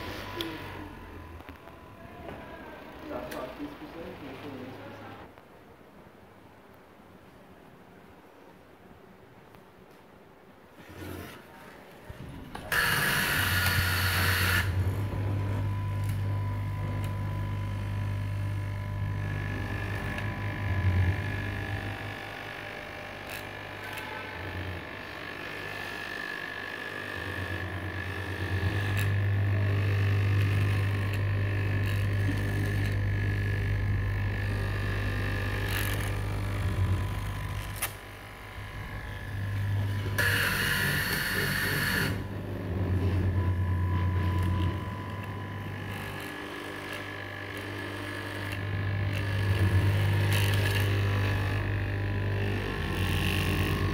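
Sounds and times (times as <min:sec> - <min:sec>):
fabric cutting machine humming: 0:00.0 - 0:05.4, 0:10.7 - 0:53.9.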